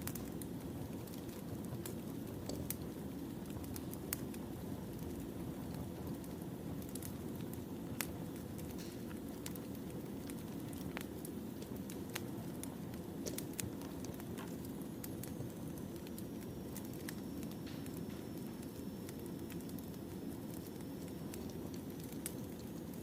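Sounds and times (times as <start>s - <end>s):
logs popping and crackling: 0.0s - 23.0s
wood fire burning: 0.0s - 23.0s.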